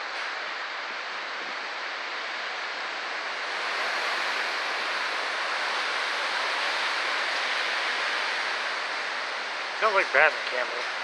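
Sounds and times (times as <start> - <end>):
strong wind through tree leaves: 0.0 - 11.0.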